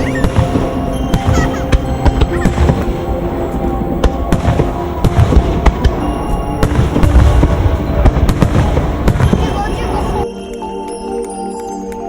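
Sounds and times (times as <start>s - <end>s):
fireworks bangs and crackles: 0.0s - 10.2s
music playing: 0.0s - 12.0s.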